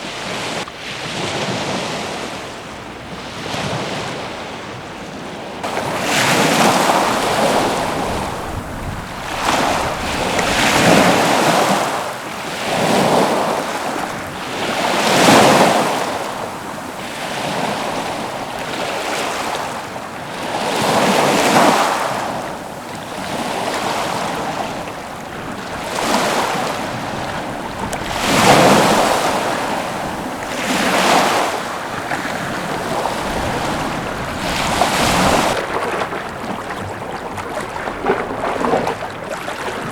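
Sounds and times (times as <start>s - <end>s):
small waves washing against breakwater: 0.0s - 39.9s.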